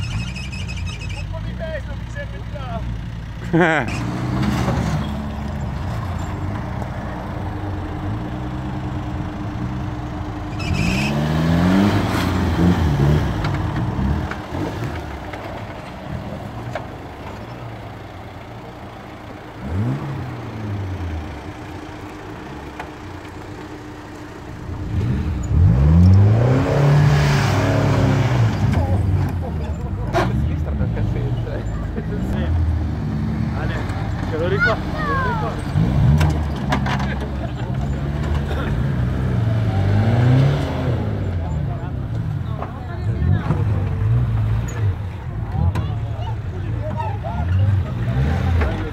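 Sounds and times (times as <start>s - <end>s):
car engine revving under load: 0.0s - 48.9s.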